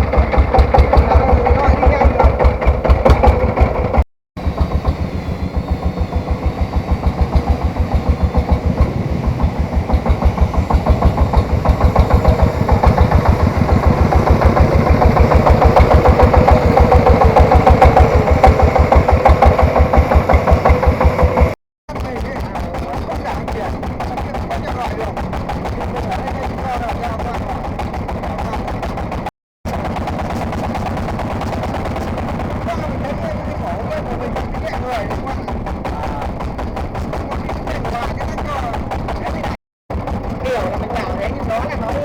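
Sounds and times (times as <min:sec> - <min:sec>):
tractor diesel engine thumping: 0:00.0 - 0:42.0.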